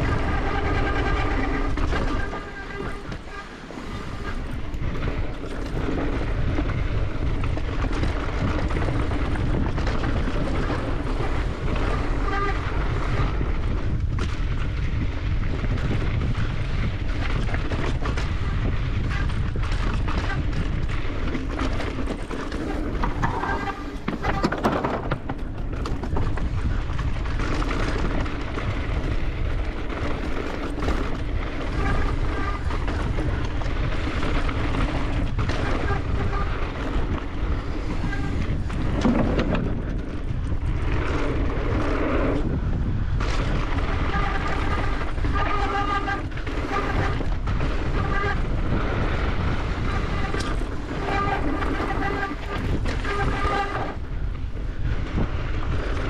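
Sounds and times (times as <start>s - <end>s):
bike tyre and rattle noise: 0.0s - 56.0s
wind rushing over microphone: 0.0s - 56.0s.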